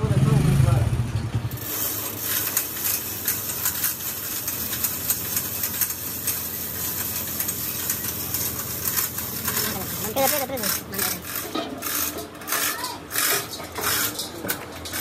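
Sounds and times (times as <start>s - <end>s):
chain hoist links clinking: 1.5s - 15.0s.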